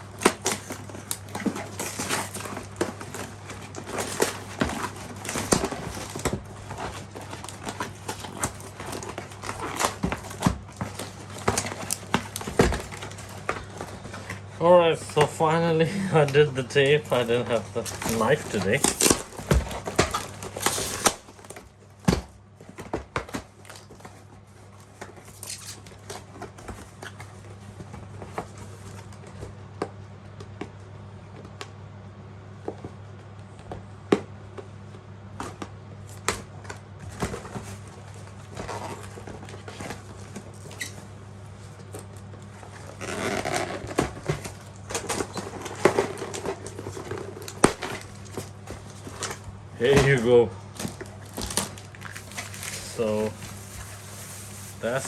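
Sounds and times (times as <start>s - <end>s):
packaging clicks knocks and rustles: 0.0s - 30.8s, 35.4s - 55.0s
steady low hum: 0.0s - 55.0s.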